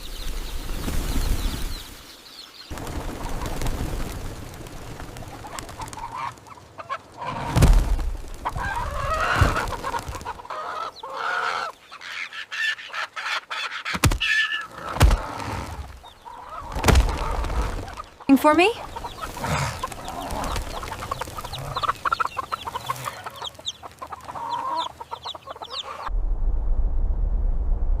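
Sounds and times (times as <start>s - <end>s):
birds clucking and calling: 0.0s - 26.1s.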